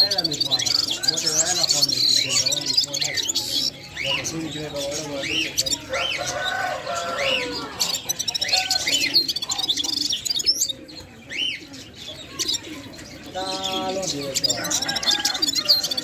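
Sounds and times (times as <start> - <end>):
bird chirping and trilling: 0.0 - 16.0.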